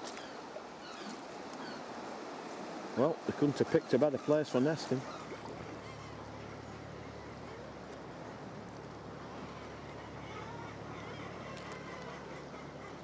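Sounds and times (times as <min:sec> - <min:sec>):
faint seabird calls: 0:00.0 - 0:02.2, 0:03.6 - 0:13.0
sea water washing: 0:00.0 - 0:10.9
wind: 0:00.0 - 0:13.0.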